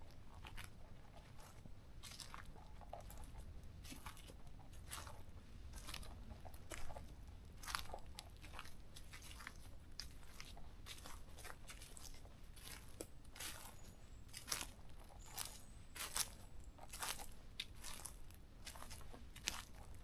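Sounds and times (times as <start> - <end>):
footsteps crunching on dry debris: 0.4 - 20.0.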